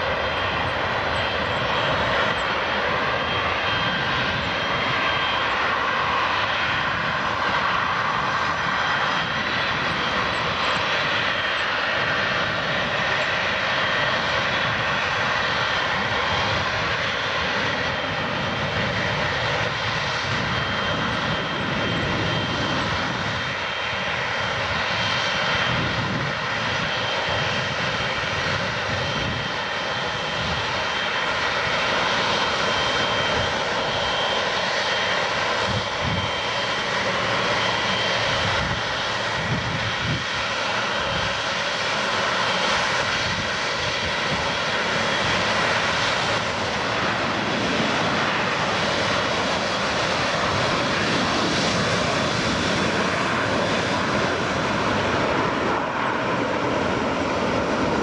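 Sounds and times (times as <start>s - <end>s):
jet engine rumble: 0.0s - 58.0s
jet engines high whine: 0.0s - 58.0s.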